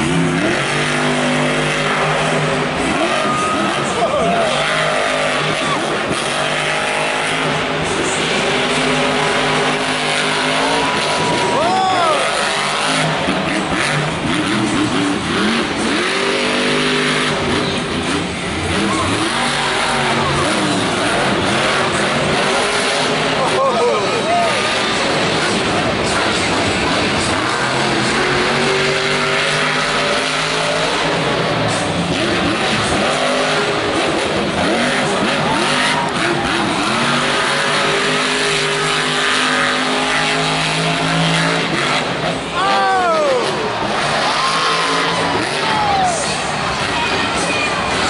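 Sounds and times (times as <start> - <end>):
monster truck engine revving: 0.0 - 48.0
stadium crowd din: 0.0 - 48.0.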